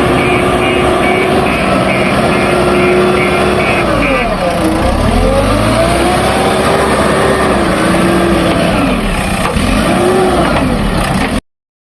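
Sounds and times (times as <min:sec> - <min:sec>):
heavy diesel engine revving: 0:00.0 - 0:11.4.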